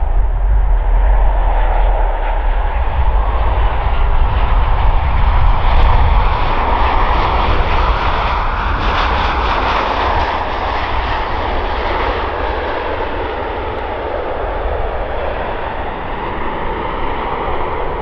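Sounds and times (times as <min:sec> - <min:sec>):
jet engine rush: 0:00.0 - 0:18.0.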